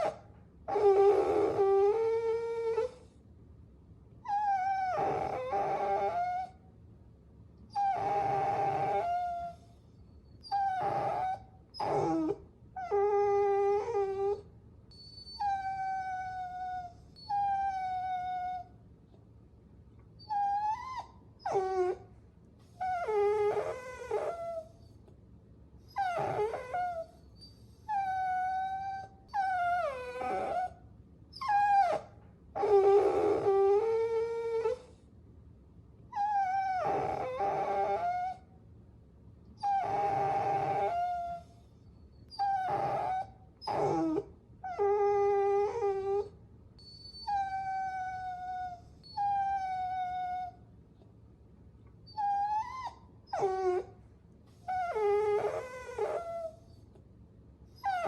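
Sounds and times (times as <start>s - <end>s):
puppies whining: 0.0s - 3.1s, 4.3s - 6.6s, 7.7s - 18.7s, 20.2s - 25.0s, 25.9s - 35.0s, 36.2s - 38.4s, 39.6s - 50.6s, 52.0s - 57.0s, 57.8s - 58.0s.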